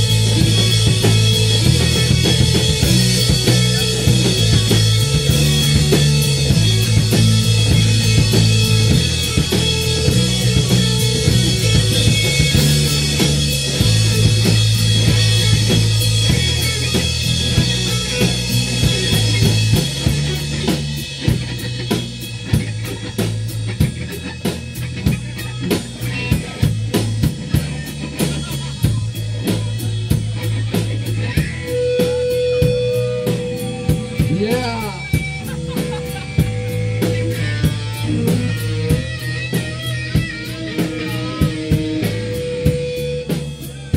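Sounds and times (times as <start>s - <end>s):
drum kit: 0.0s - 43.9s
electric guitar: 0.0s - 43.9s
low bass notes: 0.0s - 43.9s.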